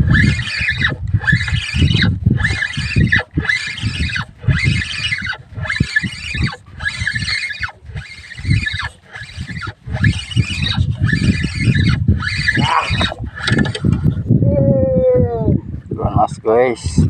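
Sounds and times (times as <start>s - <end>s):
fishing reel squeaking: 0.0s - 14.1s.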